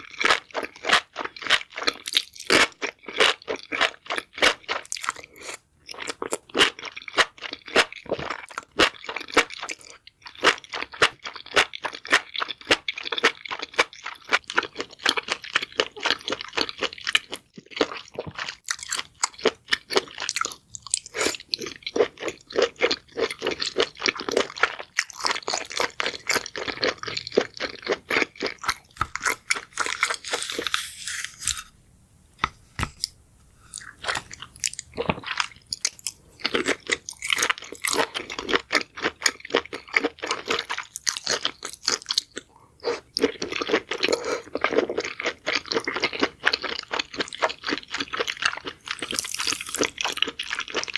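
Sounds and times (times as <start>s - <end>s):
crunchy chewing: 0.0s - 31.7s, 32.8s - 50.9s.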